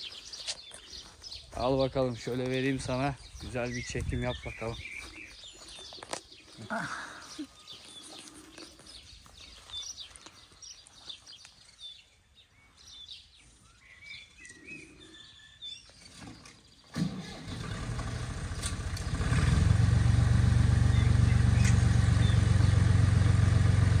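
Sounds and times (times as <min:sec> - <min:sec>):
small birds chirping: 0:00.0 - 0:17.4, 0:20.7 - 0:23.9.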